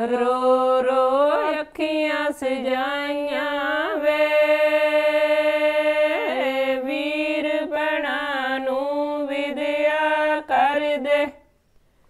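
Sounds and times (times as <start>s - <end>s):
women singing unaccompanied: 0.0s - 11.5s.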